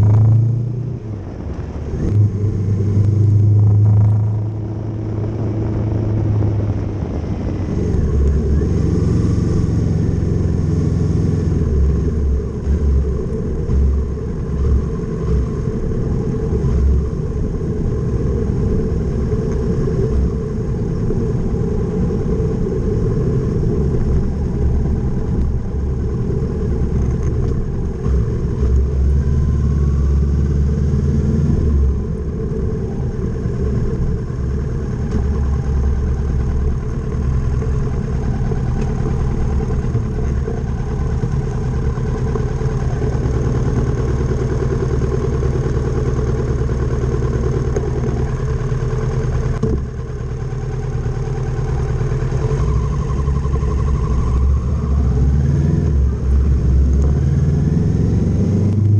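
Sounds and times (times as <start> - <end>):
motorcycle engine revving: 0.0 - 1.0, 1.8 - 58.9.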